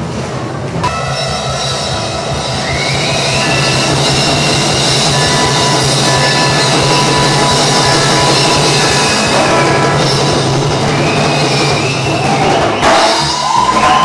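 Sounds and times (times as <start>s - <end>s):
music with drum kit: 0.8s - 14.0s.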